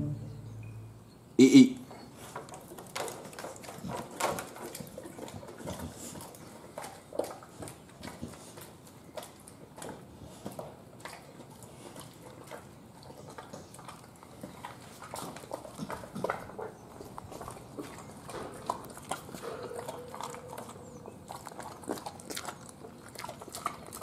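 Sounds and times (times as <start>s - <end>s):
dog chewing meat: 2.2s - 24.0s.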